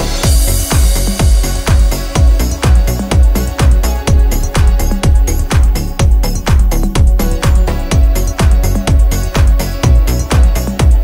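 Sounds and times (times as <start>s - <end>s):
kick drum beat: 0.0s - 11.0s.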